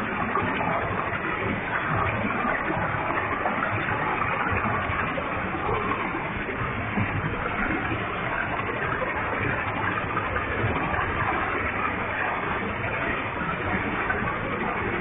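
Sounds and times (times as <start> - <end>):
waterfall pouring and splashing: 0.0 - 15.0.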